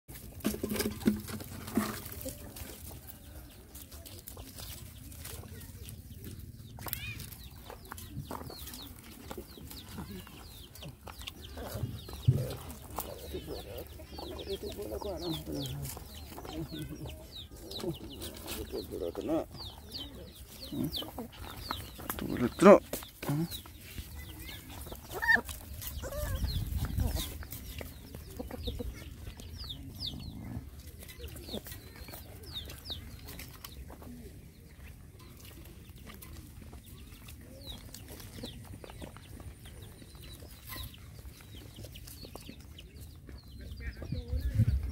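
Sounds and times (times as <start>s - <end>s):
chickens clucking: 0.1s - 44.9s
birds chirping: 0.2s - 44.9s.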